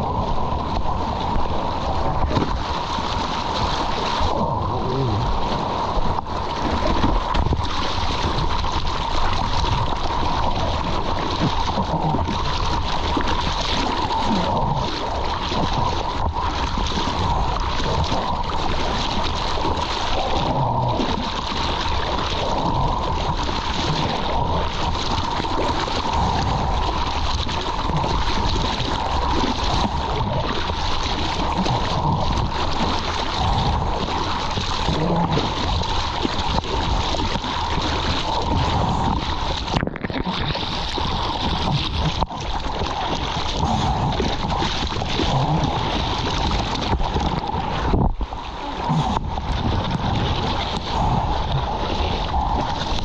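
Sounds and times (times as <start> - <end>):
water rushing and splashing: 0.0 - 53.0.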